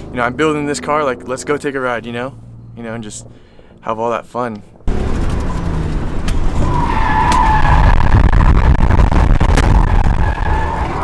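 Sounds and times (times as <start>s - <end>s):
car engine under load: 0.0s - 11.0s.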